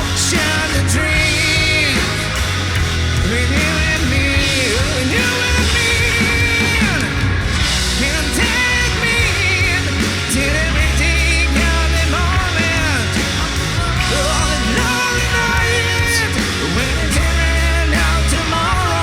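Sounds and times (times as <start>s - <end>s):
bending lead melody: 0.0s - 19.0s
live rock band playing: 0.0s - 19.0s.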